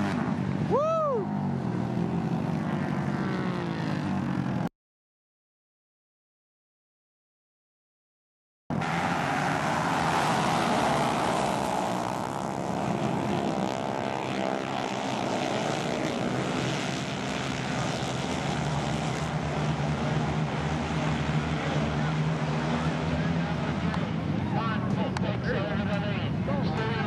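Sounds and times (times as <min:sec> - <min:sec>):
racing motorcycle engines droning: 0:00.0 - 0:04.7, 0:08.7 - 0:27.0.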